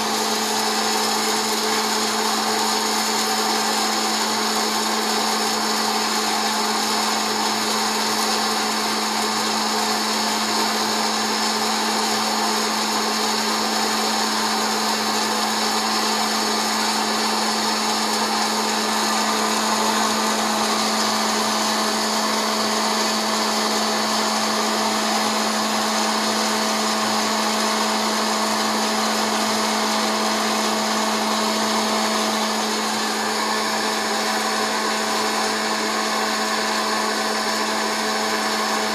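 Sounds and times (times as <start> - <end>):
popcorn popper fan whirring: 0.0 - 38.9.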